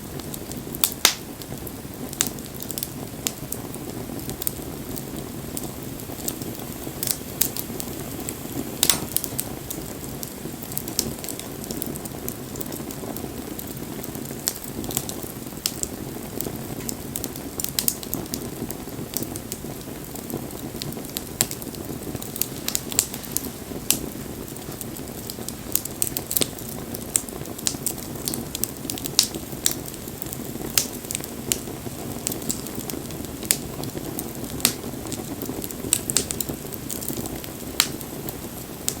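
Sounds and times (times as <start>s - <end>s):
low rush of burning: 0.0s - 39.0s
wood fire crackling and popping: 0.0s - 39.0s.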